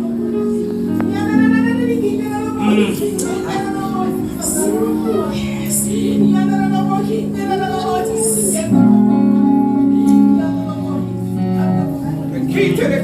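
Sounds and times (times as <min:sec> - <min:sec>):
music with sustained chords: 0:00.0 - 0:13.0
wavering singing voice: 0:01.1 - 0:13.0.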